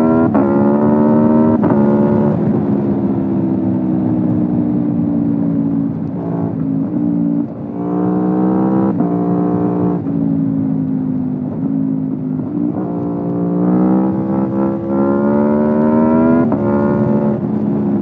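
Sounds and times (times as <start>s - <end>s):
gear changes: 0.0s - 18.0s
motorcycle engine revving: 0.0s - 18.0s.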